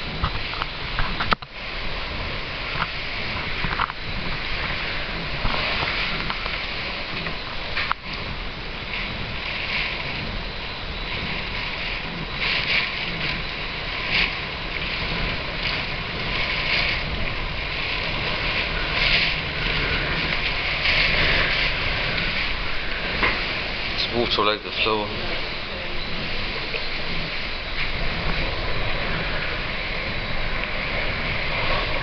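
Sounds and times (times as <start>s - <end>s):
driving rain: 0.0s - 32.0s
strong wind: 0.0s - 32.0s.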